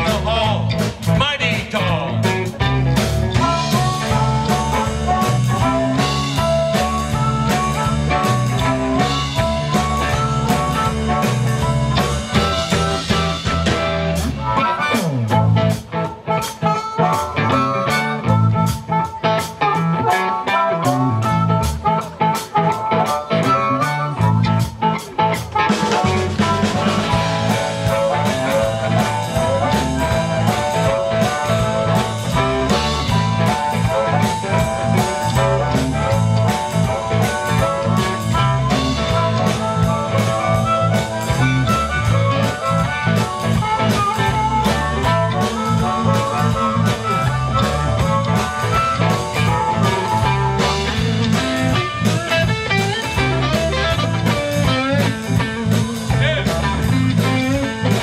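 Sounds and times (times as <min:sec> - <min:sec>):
bass guitar: 0:00.0 - 0:58.0
drum kit: 0:00.0 - 0:58.0
electric guitars: 0:00.0 - 0:58.0
harmonica lead: 0:00.0 - 0:58.0.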